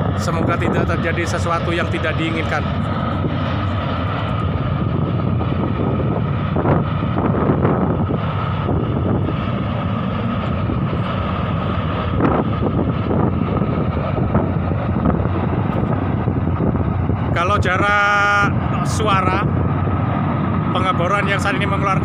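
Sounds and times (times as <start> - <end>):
steam venting with high whine: 0.0 - 22.0
wind bumps on microphone: 0.0 - 22.0.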